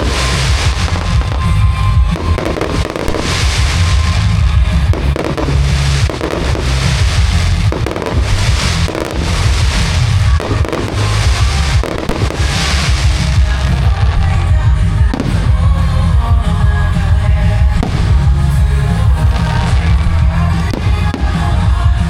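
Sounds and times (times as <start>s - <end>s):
fireworks booming and crackling: 0.0s - 22.0s
music playing: 0.0s - 22.0s.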